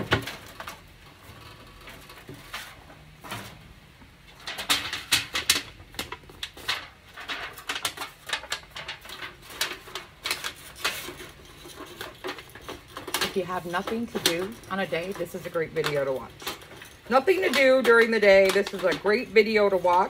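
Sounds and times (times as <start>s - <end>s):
aluminum sheet crinkling: 0.0s - 20.0s.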